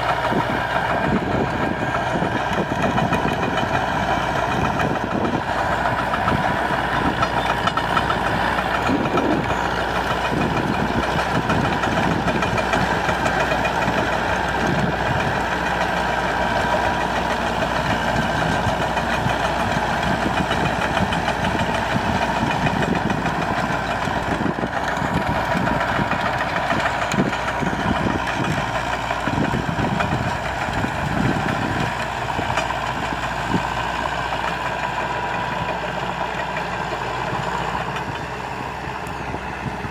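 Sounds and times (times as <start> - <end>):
rotary tiller churning soil: 0.0 - 39.9
tractor diesel engine under load: 0.0 - 39.9.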